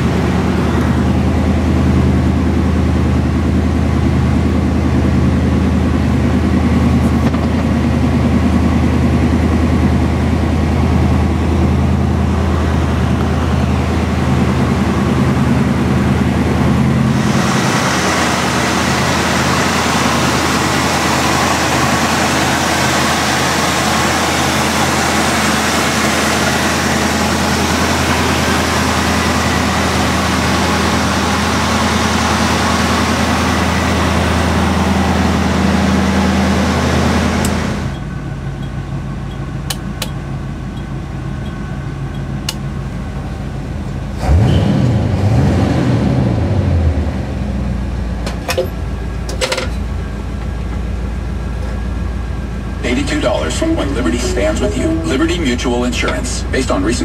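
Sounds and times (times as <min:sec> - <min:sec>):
car engine idling: 0:00.0 - 0:45.4, 0:46.1 - 0:57.0.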